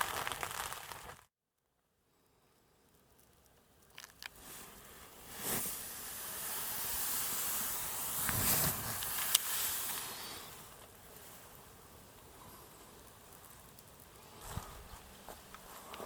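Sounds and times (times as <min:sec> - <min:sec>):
fire popping: 0:00.0 - 0:01.3, 0:02.9 - 0:16.0
embers hissing with steam: 0:02.3 - 0:16.0.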